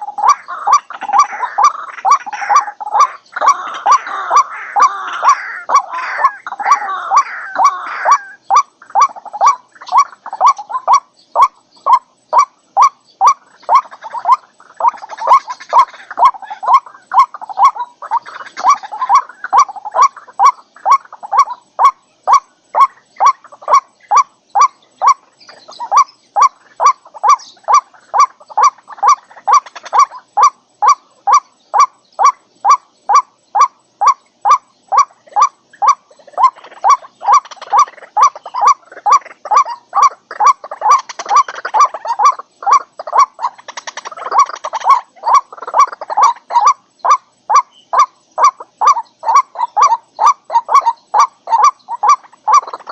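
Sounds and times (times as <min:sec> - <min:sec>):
rough chattering bird calls: 0:00.0 - 0:52.9.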